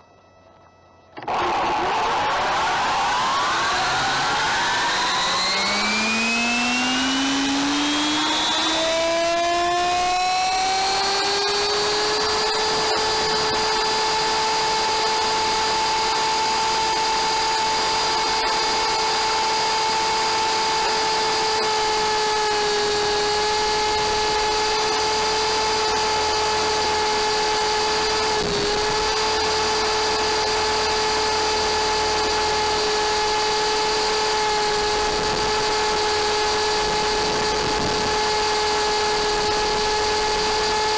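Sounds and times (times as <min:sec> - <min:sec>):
helicopter motor whining: 0:01.1 - 0:40.9.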